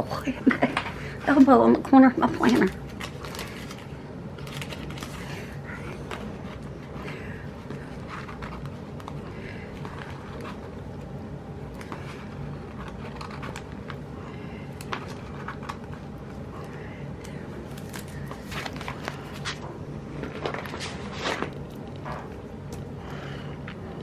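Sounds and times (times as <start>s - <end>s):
low room hum: 0.0s - 24.0s
paper clicks and rustles: 2.3s - 11.1s, 11.7s - 14.0s, 14.7s - 22.8s.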